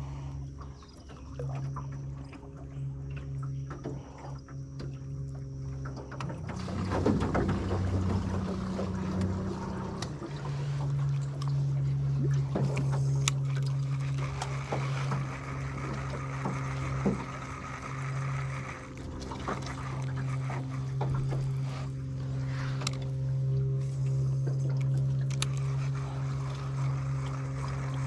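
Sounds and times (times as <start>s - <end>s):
small boat motor humming: 0.0s - 28.0s.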